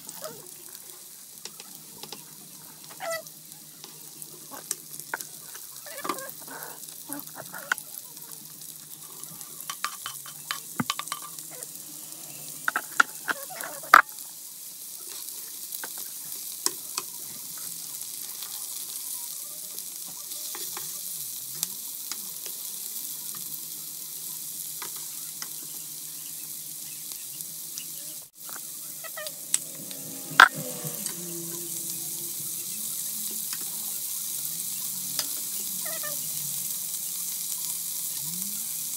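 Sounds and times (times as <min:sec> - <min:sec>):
vegetables sizzling in frying pan: 0:00.0 - 0:38.9.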